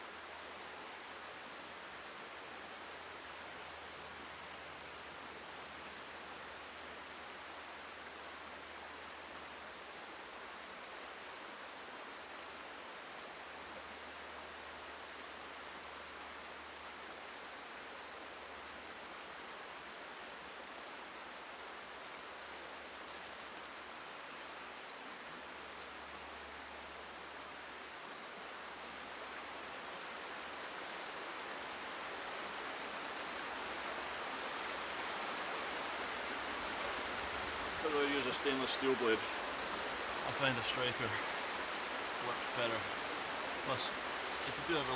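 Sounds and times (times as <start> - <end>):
river flowing: 0.0 - 44.9.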